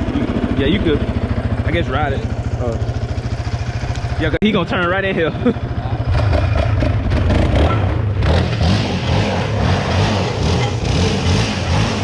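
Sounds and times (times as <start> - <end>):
all-terrain vehicle engine revving: 0.0 - 12.0.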